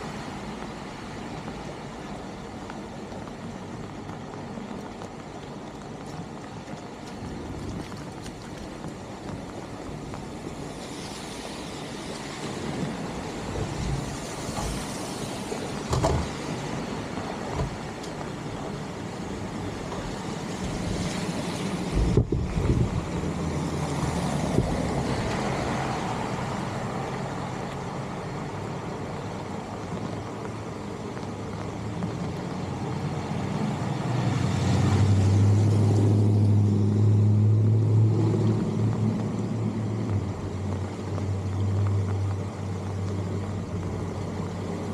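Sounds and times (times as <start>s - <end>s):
rain on flooded street: 0.0s - 44.9s
vehicle engine humming: 0.0s - 44.9s.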